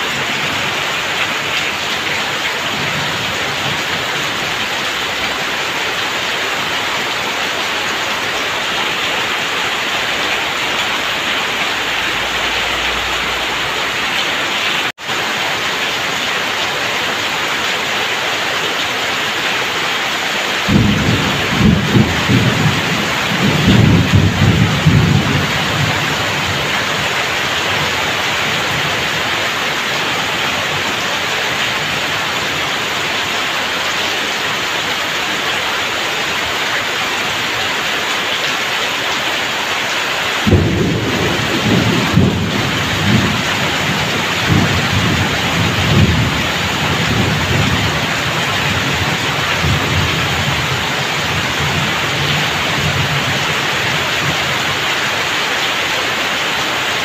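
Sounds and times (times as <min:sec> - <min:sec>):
heavy rain pouring off a roof: 0:00.0 - 0:57.0.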